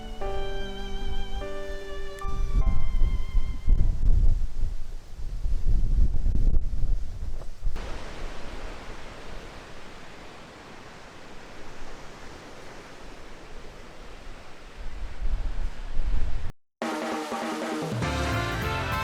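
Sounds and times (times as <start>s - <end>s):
strong wind buffeting microphone: 0.0s - 16.5s.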